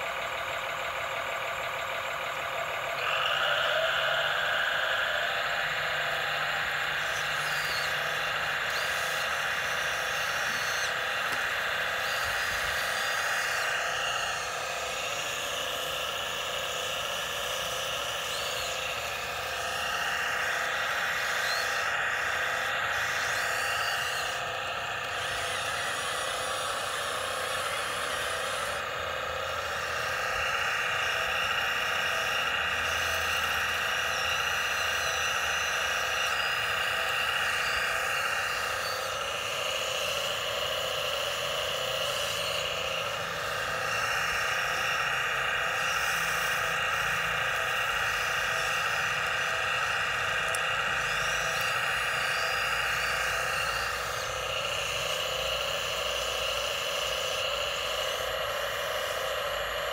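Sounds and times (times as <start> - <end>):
electric motors whirring: 0.0 - 59.9.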